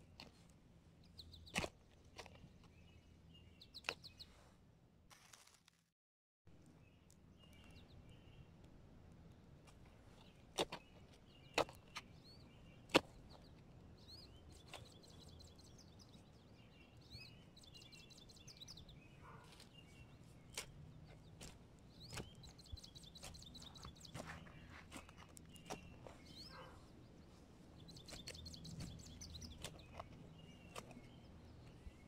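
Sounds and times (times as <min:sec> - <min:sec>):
faint birds chirping: 0:00.0 - 0:04.6, 0:06.5 - 0:32.0.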